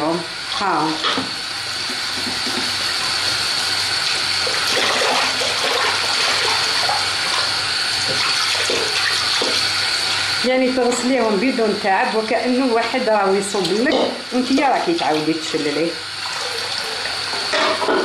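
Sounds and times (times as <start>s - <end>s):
tap water running into bowl: 0.0s - 11.8s, 12.4s - 18.0s.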